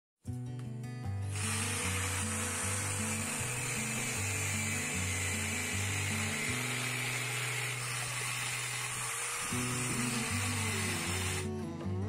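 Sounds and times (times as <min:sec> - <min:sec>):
background music: 0:00.3 - 0:12.0
angle grinder cutting steel: 0:01.3 - 0:11.5.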